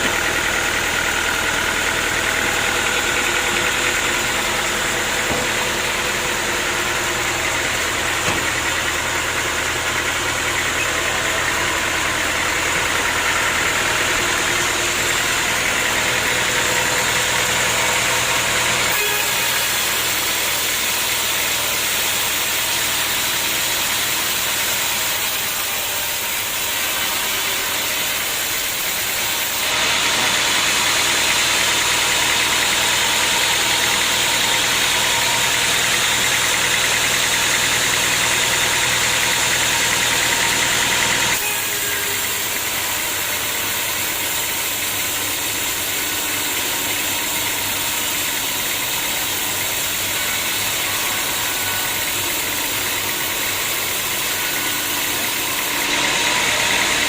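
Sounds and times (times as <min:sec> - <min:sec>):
saw blade cutting log: 0:00.0 - 0:57.0
sawmill saw running: 0:00.0 - 0:57.0.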